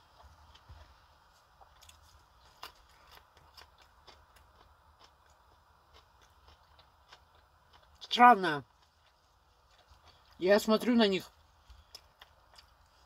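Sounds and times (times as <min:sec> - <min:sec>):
radish being chewed: 0:00.0 - 0:13.0.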